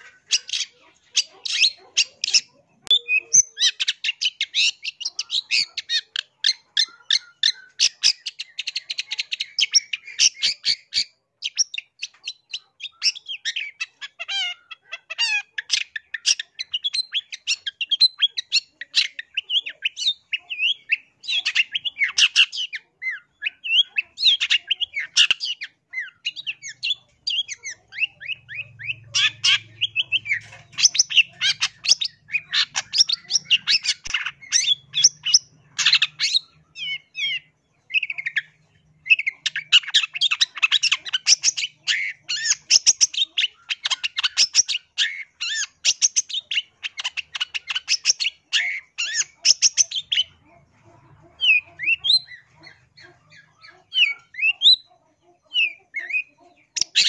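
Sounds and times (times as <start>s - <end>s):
shrike chattering song: 0.0s - 57.0s.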